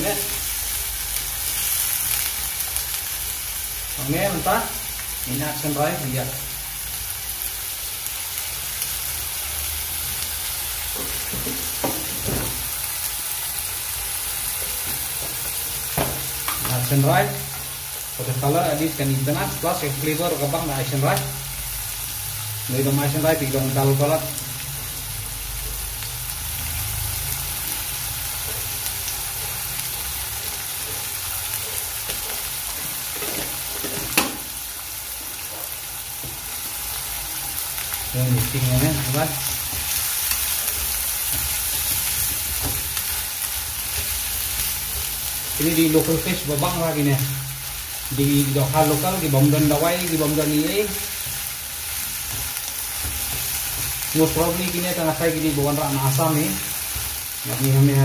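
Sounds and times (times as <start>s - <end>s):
fish sizzling in hot oil: 0.0s - 58.0s.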